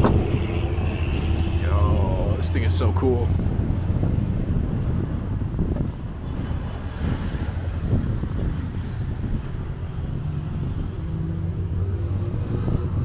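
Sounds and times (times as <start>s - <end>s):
low rumble of passing cars: 0.0s - 13.0s.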